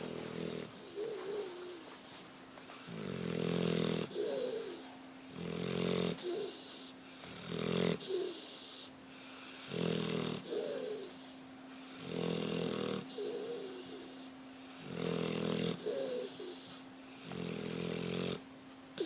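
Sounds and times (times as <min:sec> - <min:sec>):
dog snoring: 0:00.0 - 0:00.8, 0:02.8 - 0:11.1, 0:11.8 - 0:18.4.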